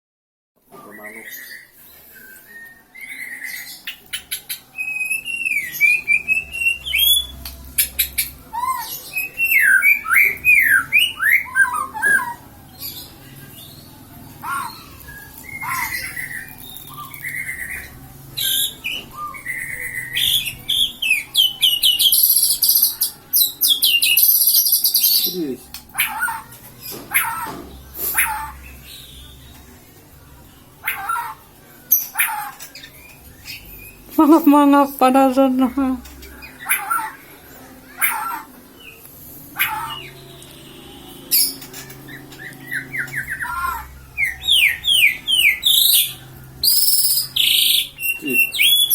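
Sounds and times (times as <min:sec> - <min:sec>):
songbird singing and trilling: 0:00.8 - 0:29.7, 0:30.8 - 0:48.9.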